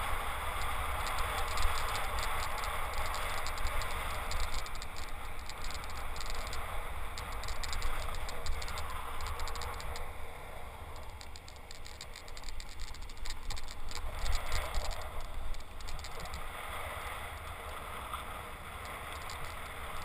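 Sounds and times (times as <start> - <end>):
buggy wheels rattling on sand: 0.0 - 20.0.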